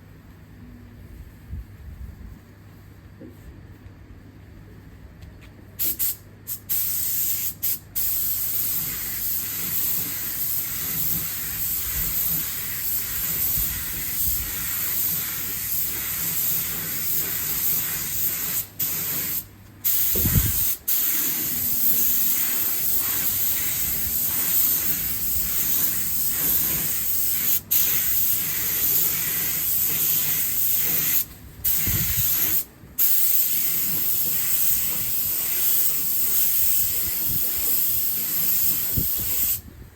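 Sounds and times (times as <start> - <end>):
paint spray gun hissing: 5.8 - 39.6.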